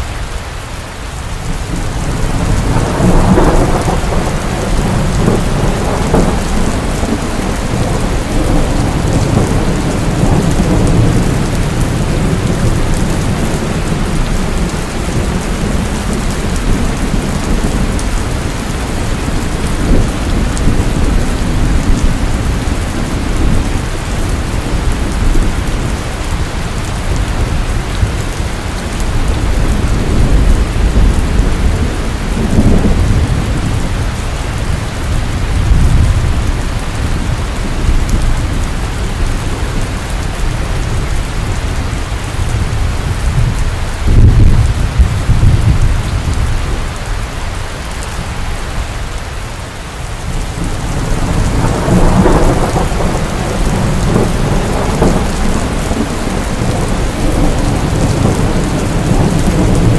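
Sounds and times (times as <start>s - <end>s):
steady rain: 0.0s - 59.9s
rolling thunder: 1.4s - 47.0s, 50.2s - 59.9s.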